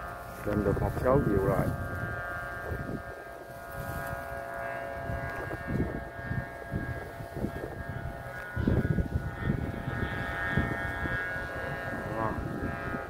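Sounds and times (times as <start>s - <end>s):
kite flutes droning: 0.0s - 13.0s
wind rumbling on microphone: 0.0s - 13.0s.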